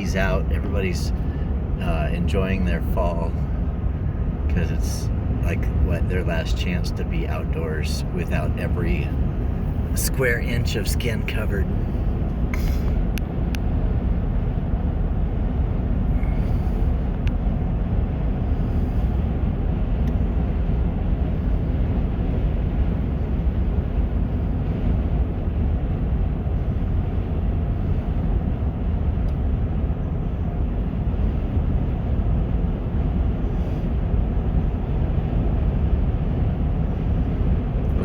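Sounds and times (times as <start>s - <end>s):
car cabin road and engine rumble: 0.0s - 38.0s.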